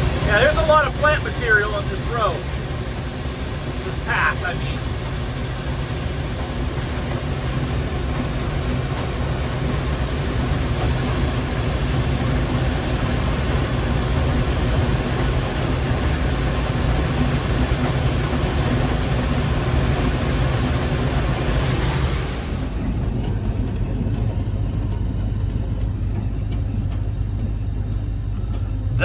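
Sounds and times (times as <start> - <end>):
combine harvester running: 0.0 - 29.0.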